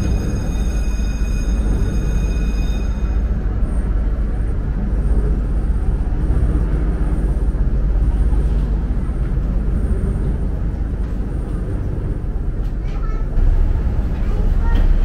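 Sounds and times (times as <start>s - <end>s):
ferry engine rumble: 0.0s - 15.0s.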